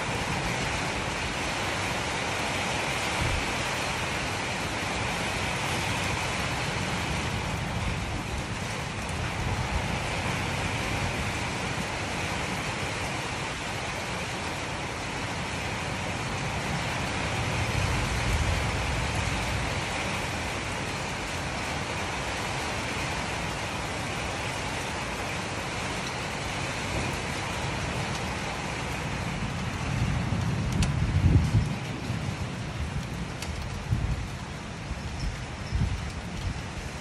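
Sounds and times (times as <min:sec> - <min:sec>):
strong storm wind gusts: 0:00.0 - 0:37.0.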